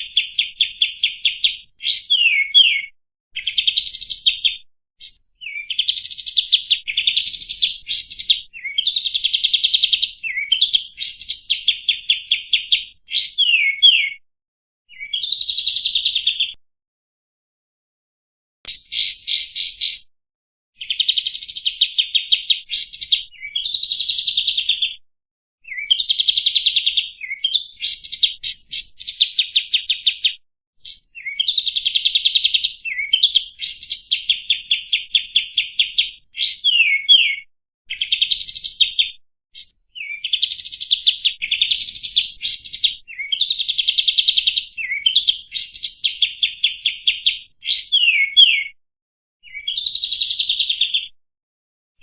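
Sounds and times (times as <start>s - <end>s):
songbird singing fast trills: 0.0s - 14.2s, 14.9s - 16.6s, 18.7s - 20.1s, 20.8s - 25.0s, 25.6s - 48.8s, 49.4s - 51.1s.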